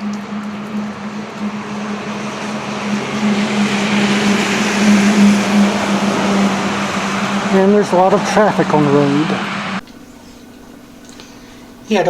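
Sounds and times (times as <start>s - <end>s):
tyres hissing on wet road: 0.0s - 11.8s
steady low hum: 0.0s - 12.0s.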